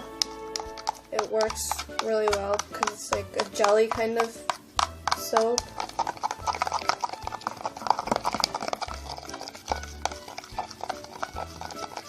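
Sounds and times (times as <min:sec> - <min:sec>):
spoon stirring in a container: 0:00.0 - 0:12.0.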